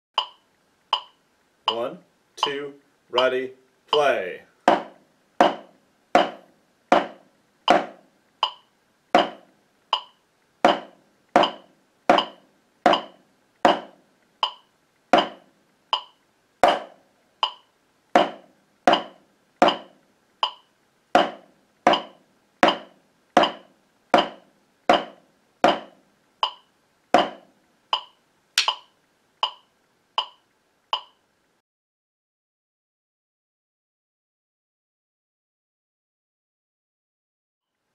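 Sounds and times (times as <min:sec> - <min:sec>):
drumsticks tapping practice pad: 0:00.2 - 0:31.2
metronome ticking: 0:00.2 - 0:31.2.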